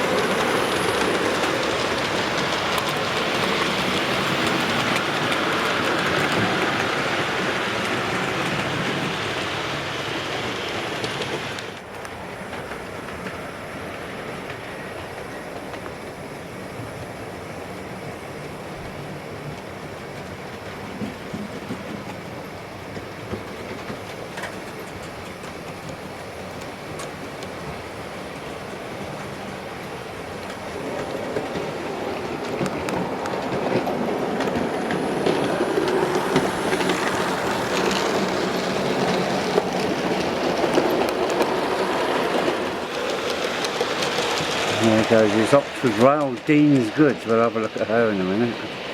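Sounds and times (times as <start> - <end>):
rapid wheel clicks on rails: 0.0 - 16.0, 18.7 - 48.9
model train rumbling: 0.0 - 48.9.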